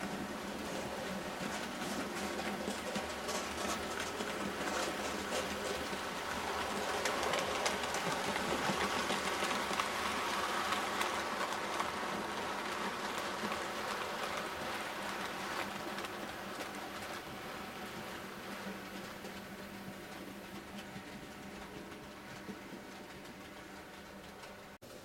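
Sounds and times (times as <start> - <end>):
wheels clicking over rail joints: 0.0 - 24.8.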